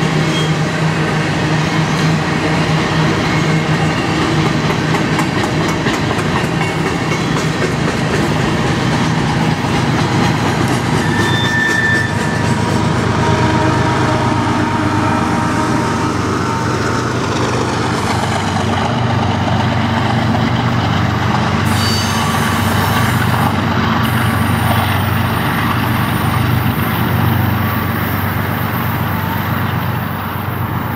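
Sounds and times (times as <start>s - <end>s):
diesel locomotive engine drone: 0.0s - 30.9s
wheels rumbling on rail: 0.0s - 30.9s.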